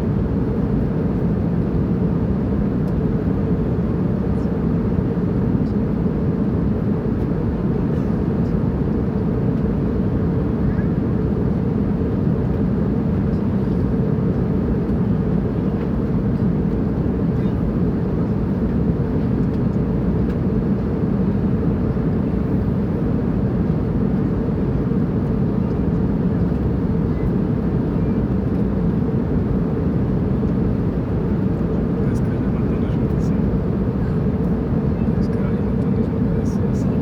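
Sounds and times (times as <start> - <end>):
airplane droning in flight: 0.0 - 37.0.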